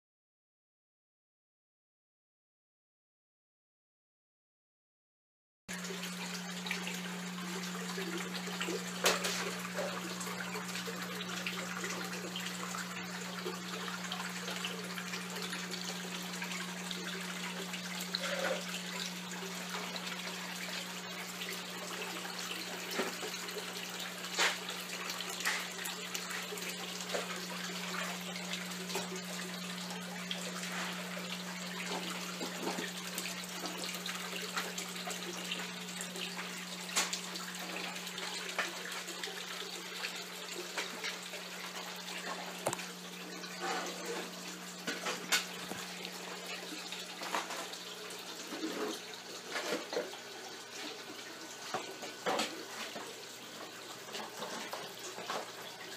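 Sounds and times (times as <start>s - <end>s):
water splashing into tank: 5.7s - 55.9s.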